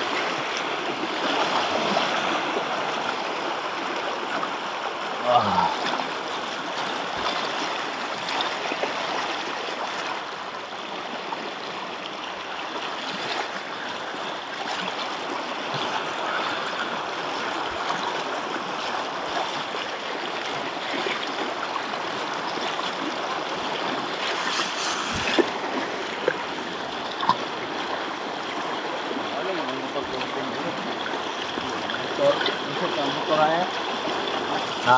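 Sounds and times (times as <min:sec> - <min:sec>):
floodwater rushing: 0:00.0 - 0:34.9.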